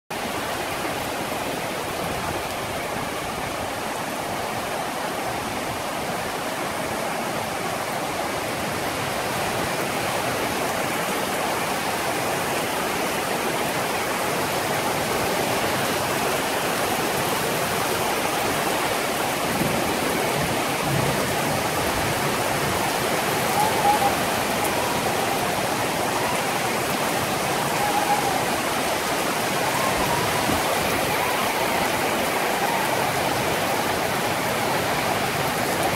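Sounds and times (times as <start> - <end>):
heavy rain hissing on trees: 0.1 - 35.9.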